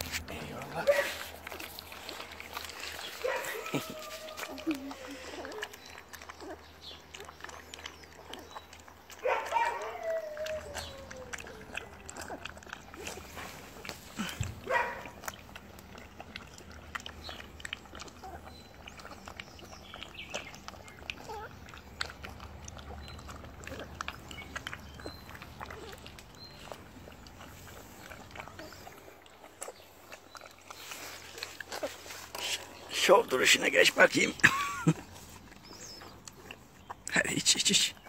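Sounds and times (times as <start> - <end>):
puppies lapping milk: 0.0 - 38.0.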